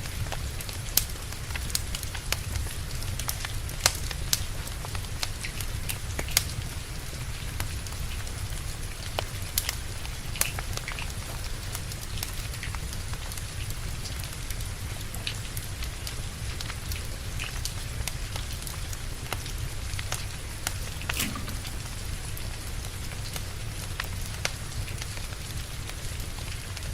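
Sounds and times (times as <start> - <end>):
steady rain: 0.0 - 26.9
wood fire crackling and popping: 0.1 - 26.9.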